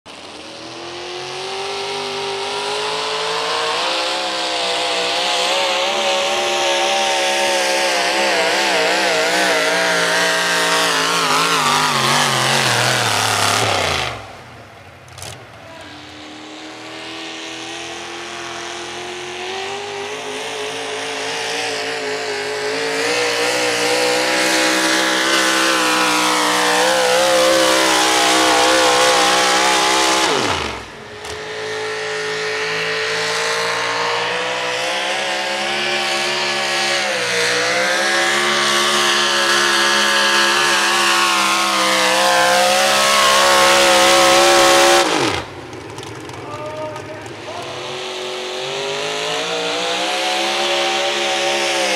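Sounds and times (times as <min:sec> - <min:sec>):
pulling truck engine at full throttle: 0:00.1 - 0:51.9.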